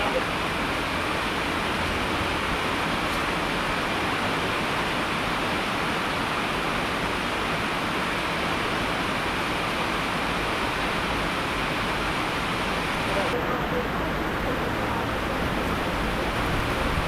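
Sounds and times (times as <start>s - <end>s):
hiss of falling water: 0.0s - 17.0s.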